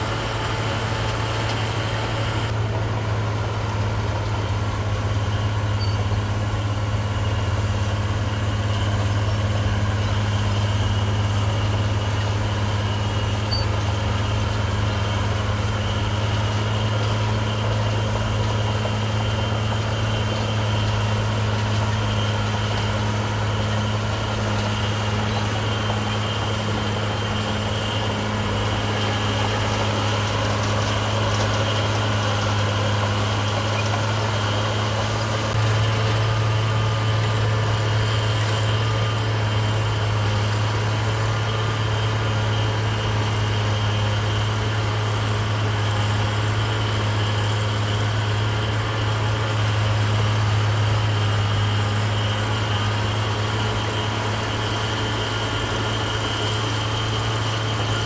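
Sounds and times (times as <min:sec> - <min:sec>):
heavy diesel engine humming: 0:00.0 - 0:58.0.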